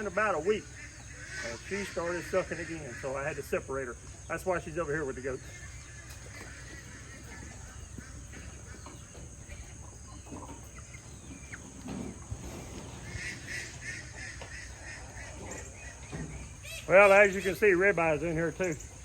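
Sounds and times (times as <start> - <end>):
poultry calling: 0.0 - 19.0.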